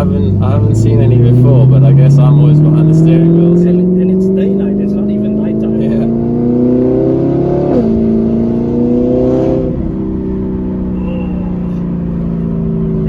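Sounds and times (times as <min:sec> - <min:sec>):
car engine revving through gears: 0:00.0 - 0:13.0.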